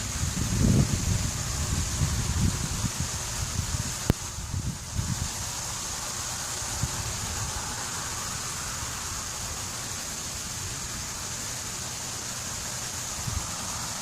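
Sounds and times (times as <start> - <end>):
power line corona hiss: 0.0 - 14.0.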